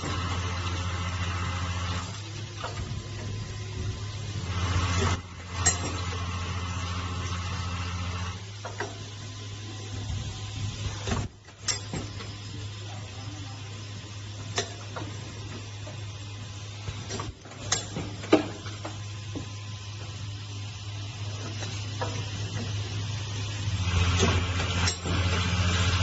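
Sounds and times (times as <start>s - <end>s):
welding machine humming: 0.0s - 26.0s.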